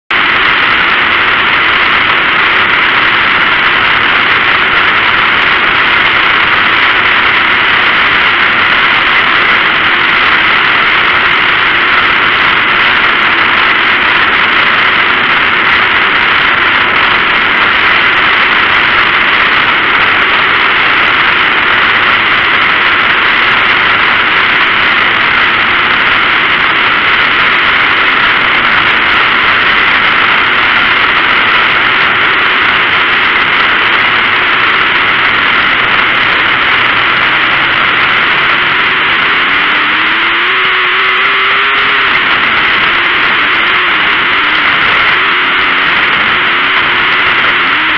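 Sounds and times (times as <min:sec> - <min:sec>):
race car engine roaring: 0:00.0 - 0:47.9
rushing air: 0:00.1 - 0:47.9.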